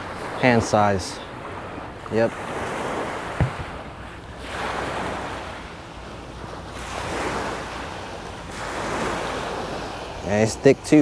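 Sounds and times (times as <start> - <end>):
wind on microphone: 0.0 - 10.2
waves washing onto beach: 0.0 - 11.0.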